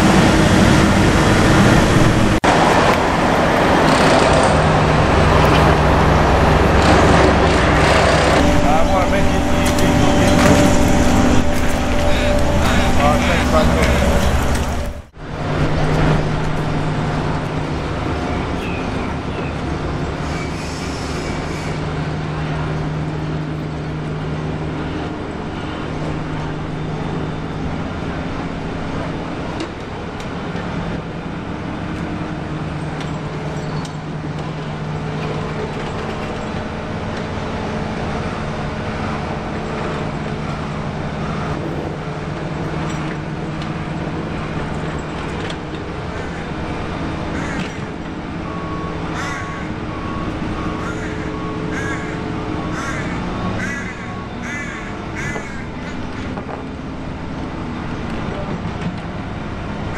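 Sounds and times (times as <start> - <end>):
traffic-like noise: 0.0 - 59.9
low mechanical hum: 3.3 - 59.9.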